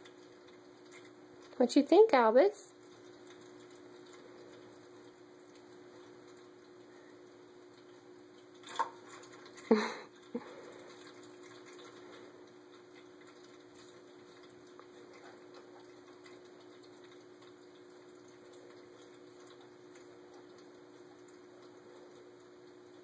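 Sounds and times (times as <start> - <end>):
pump hum: 0.0 - 23.0
water trickling: 0.0 - 23.0.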